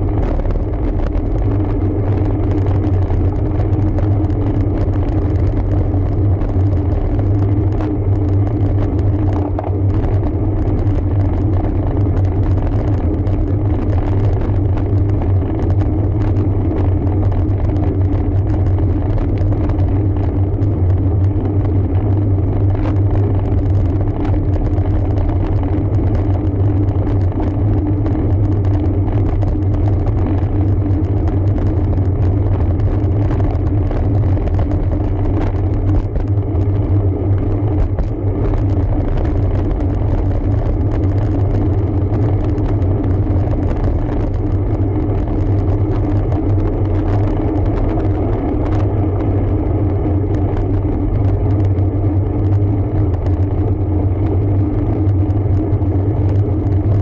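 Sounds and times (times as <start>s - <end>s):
tyre and road noise: 0.0s - 57.0s
wind on microphone: 0.0s - 57.0s.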